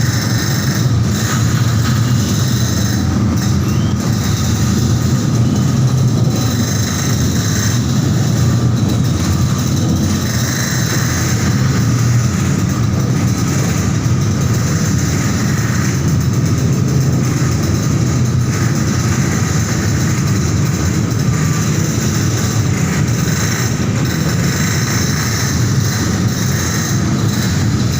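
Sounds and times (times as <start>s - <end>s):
ferry engine rumble: 0.0s - 27.9s.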